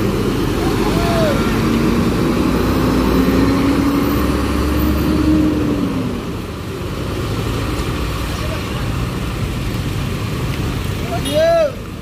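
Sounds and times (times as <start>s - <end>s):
diesel engine rumble rising: 0.0s - 11.0s.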